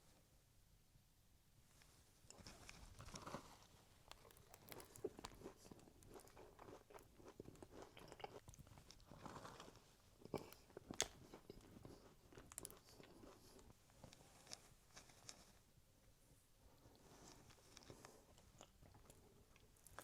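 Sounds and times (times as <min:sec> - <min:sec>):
person chewing a crunchy cookie: 0:02.3 - 0:15.4, 0:16.8 - 0:20.0.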